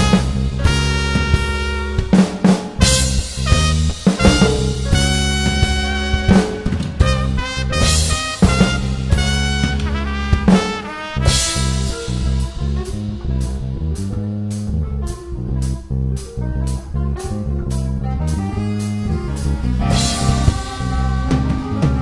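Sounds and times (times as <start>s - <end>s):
drum kit beat: 0.0s - 22.0s
guitar: 0.0s - 22.0s.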